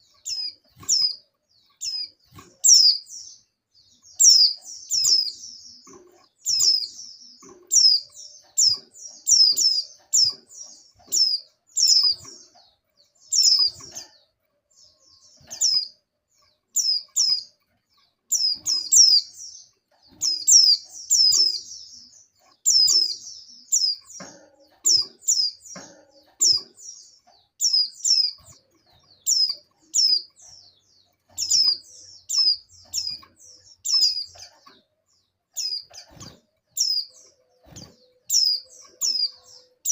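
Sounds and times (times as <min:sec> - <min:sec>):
bird high downward chirps: 0:00.0 - 0:14.2, 0:14.8 - 0:34.8, 0:35.4 - 0:39.9.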